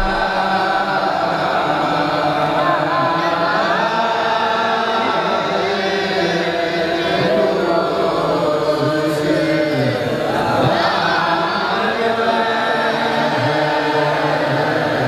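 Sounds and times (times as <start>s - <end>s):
voices chanting a hymn: 0.0s - 15.0s.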